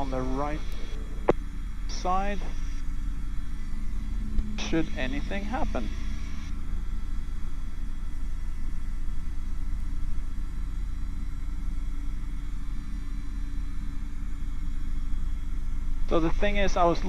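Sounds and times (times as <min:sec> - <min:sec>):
faint steady whine: 0:00.0 - 0:17.0
helicopter rotor and engine rumble: 0:00.0 - 0:17.0.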